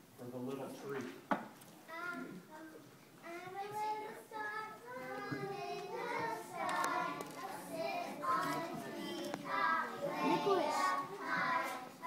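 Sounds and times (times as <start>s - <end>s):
young children singing: 2.0s - 12.0s.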